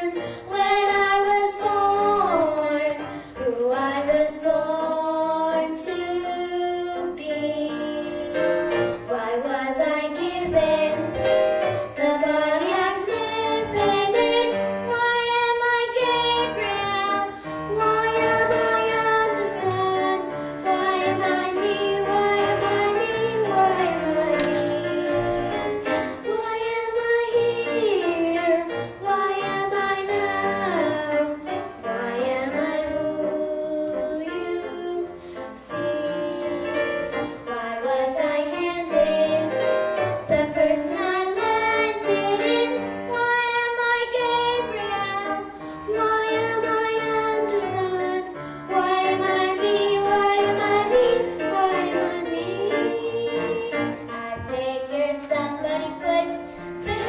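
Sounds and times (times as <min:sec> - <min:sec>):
girls singing: 0:00.0 - 0:57.0
musical accompaniment: 0:00.0 - 0:57.0.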